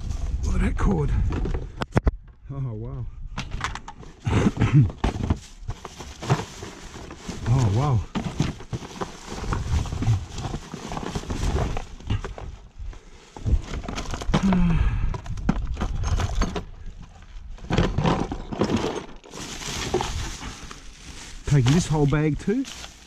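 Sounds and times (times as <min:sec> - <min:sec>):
knocks and clatter of cords: 0:01.1 - 0:02.4, 0:03.4 - 0:20.8, 0:21.4 - 0:23.0.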